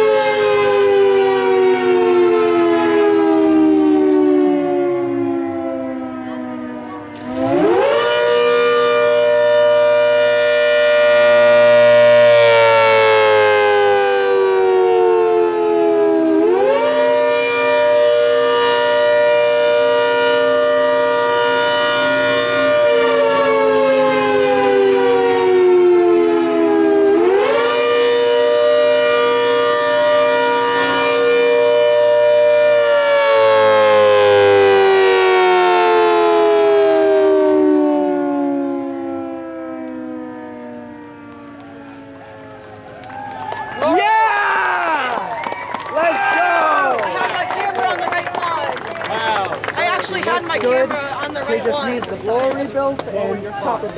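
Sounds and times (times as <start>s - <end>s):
civil defense siren wailing: 0.0s - 53.9s.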